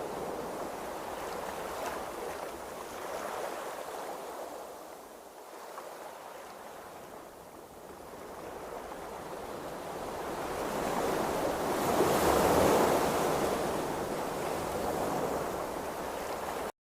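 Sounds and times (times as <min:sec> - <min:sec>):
ocean waves washing: 0:00.0 - 0:16.7.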